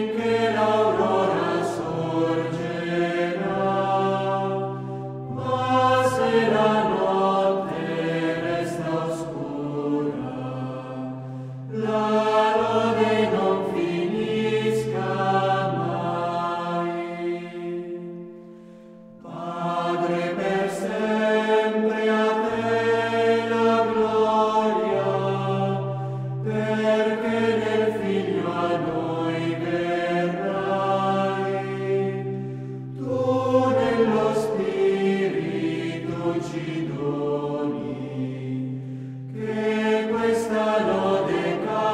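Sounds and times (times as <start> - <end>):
slow choral chant: 0.0 - 41.9.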